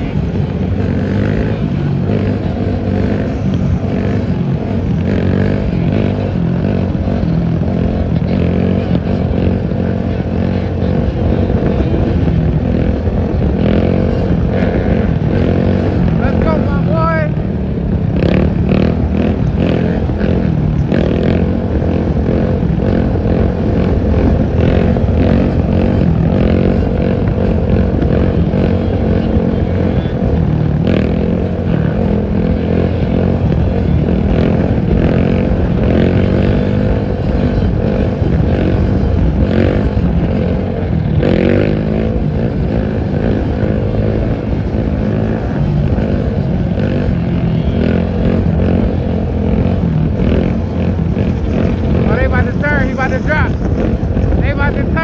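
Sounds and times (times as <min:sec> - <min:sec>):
quad bike engines revving: 0:00.0 - 0:55.0.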